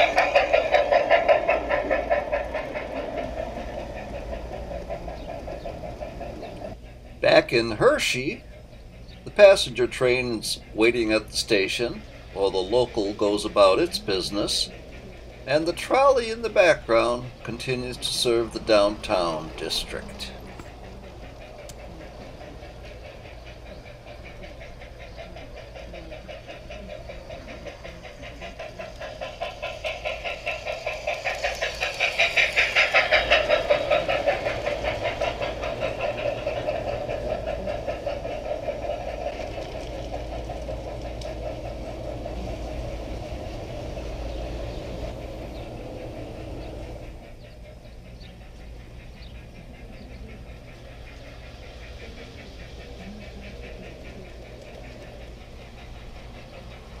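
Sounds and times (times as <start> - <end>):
model steam train running past: 0.0 - 57.0.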